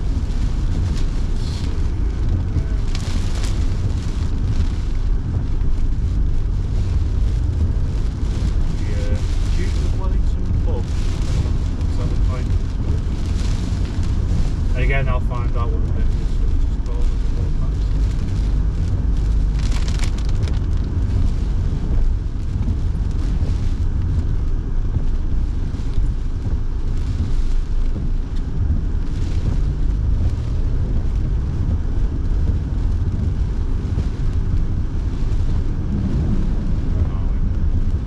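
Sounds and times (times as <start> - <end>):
road and engine rumble: 0.0 - 38.0
tyres hissing on wet road: 0.0 - 38.0.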